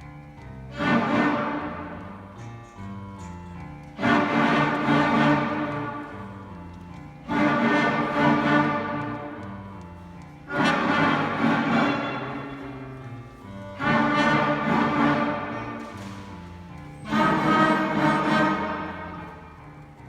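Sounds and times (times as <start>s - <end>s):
string orchestra playing: 0.7s - 2.5s, 3.8s - 20.0s.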